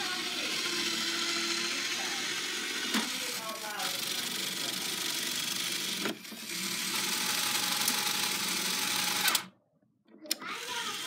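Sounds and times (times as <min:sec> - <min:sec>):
small electric motor whirring: 0:00.0 - 0:09.5, 0:10.4 - 0:11.0.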